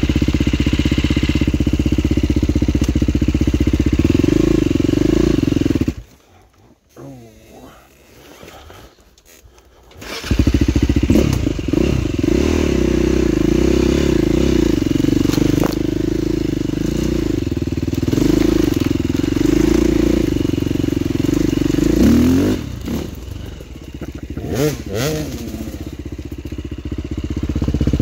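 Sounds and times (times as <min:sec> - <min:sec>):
dirt bike engine running: 0:00.0 - 0:06.4, 0:10.0 - 0:28.0.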